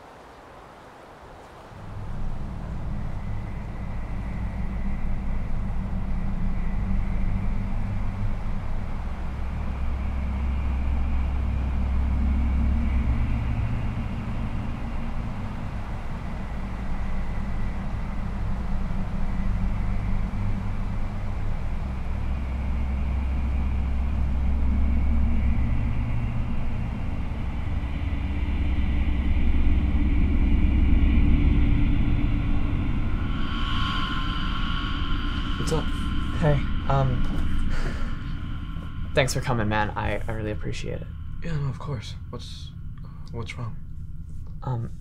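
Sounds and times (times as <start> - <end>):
deep low rumble: 1.8 - 45.0.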